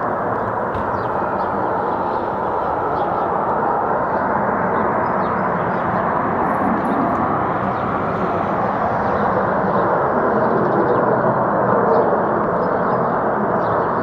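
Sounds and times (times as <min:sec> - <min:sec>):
rumbling hum drone: 0:00.0 - 0:14.0.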